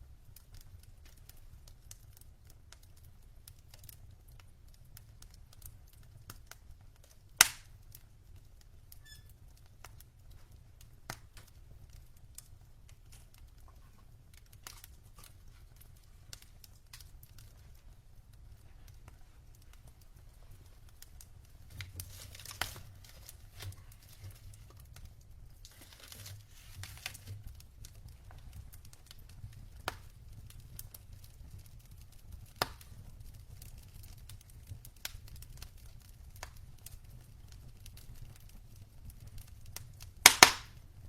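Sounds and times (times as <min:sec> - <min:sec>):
logs crackling and popping: 0:00.0 - 0:41.0
low rumble of flames: 0:00.0 - 0:41.0.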